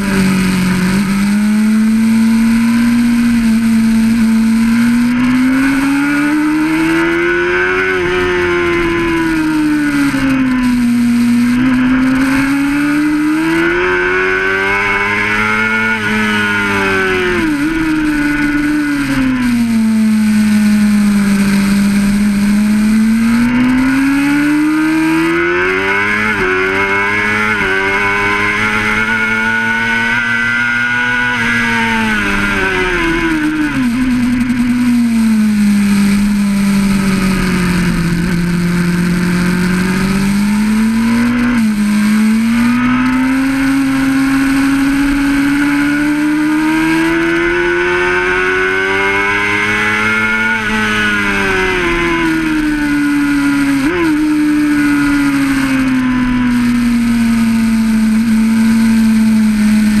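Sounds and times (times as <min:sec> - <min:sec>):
motorcycle engine revving: 0:00.0 - 1:00.0
wind and road noise: 0:00.0 - 1:00.0.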